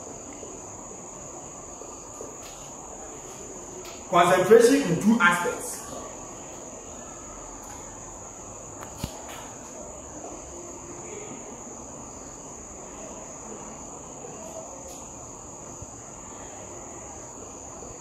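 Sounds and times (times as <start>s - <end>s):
low room noise: 0.0s - 18.0s
steady high-pitched whine: 0.0s - 18.0s.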